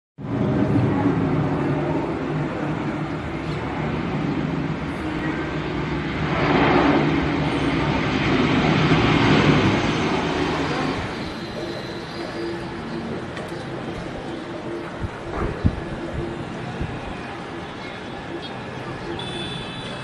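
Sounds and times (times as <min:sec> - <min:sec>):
jet engines rumbling: 0:00.2 - 0:20.0.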